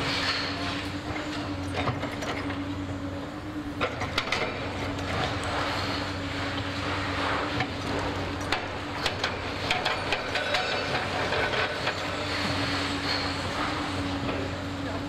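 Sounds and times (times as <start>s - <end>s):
excavator engine and hydraulic hum: 0.0s - 15.0s.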